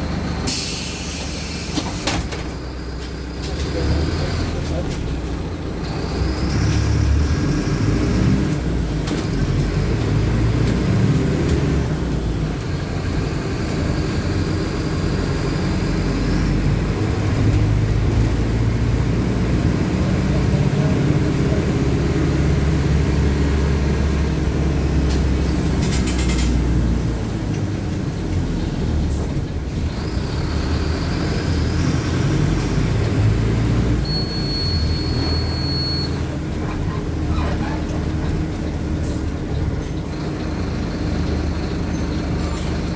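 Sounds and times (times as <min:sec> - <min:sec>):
bus diesel engine accelerating: 0:00.0 - 0:42.9.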